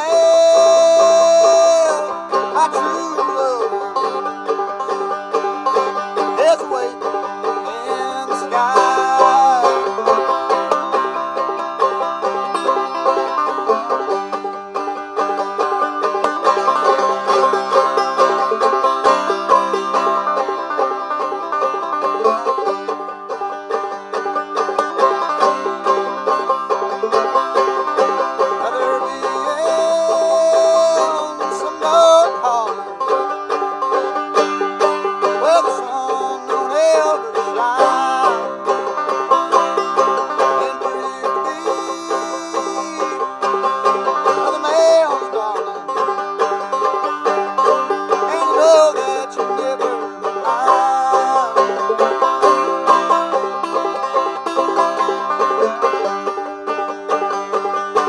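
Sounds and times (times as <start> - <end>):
banjo playing: 0.0 - 58.0.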